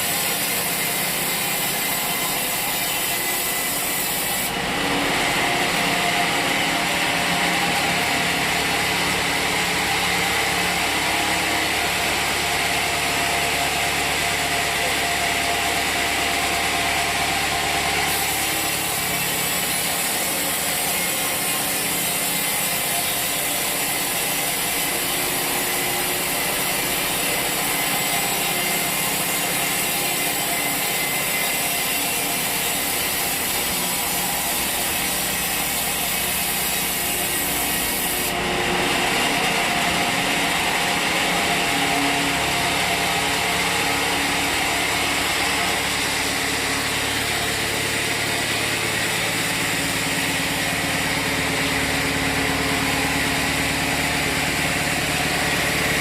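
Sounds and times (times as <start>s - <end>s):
saw blade cutting through log: 0.0s - 56.0s.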